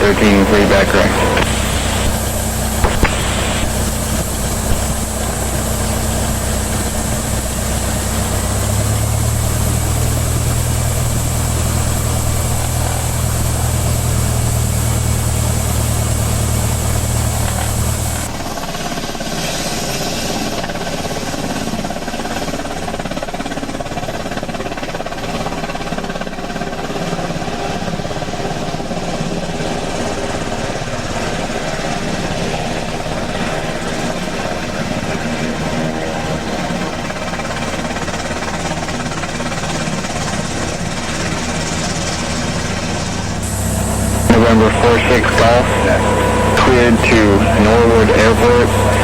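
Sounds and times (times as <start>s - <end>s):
propeller plane engine droning: 0.0s - 49.0s.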